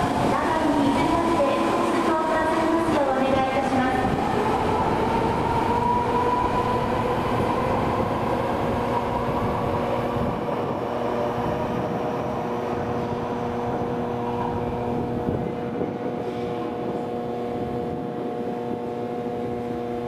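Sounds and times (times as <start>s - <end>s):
subway train inverter whine: 0.0s - 20.0s
train wheel and running noise: 0.0s - 20.0s.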